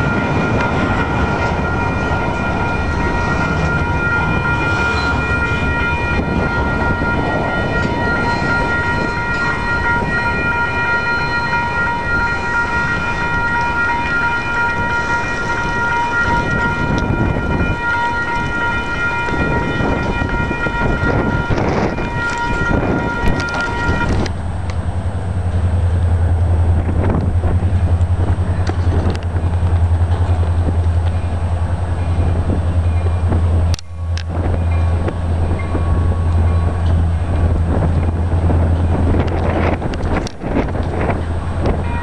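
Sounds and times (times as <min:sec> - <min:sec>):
crossing bell ringing: 0:00.0 - 0:24.3, 0:25.4 - 0:42.0
train rumble: 0:00.0 - 0:42.0.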